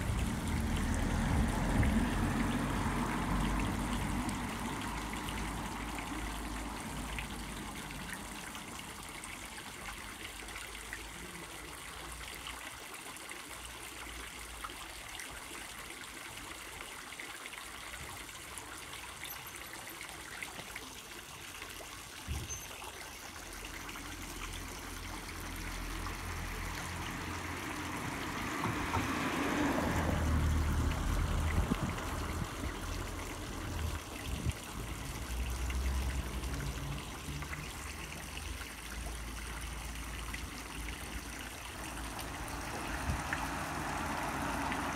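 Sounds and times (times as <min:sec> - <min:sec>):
fountain water splashing into basin: 0:00.0 - 0:44.9.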